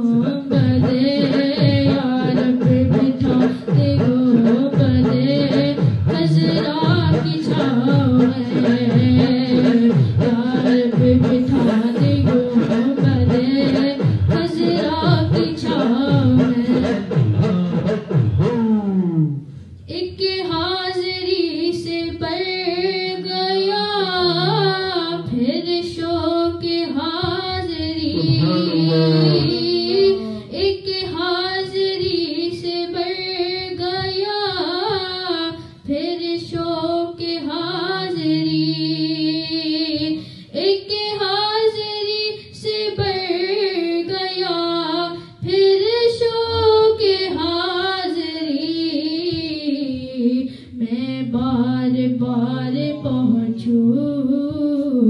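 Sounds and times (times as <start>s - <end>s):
person singing devotional song: 0.0s - 17.9s, 19.9s - 55.0s.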